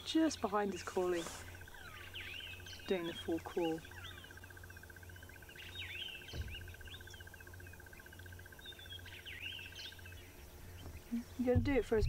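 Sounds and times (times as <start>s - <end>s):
low steady hum: 0.0s - 12.0s
small birds chirping and whistling: 0.3s - 12.0s.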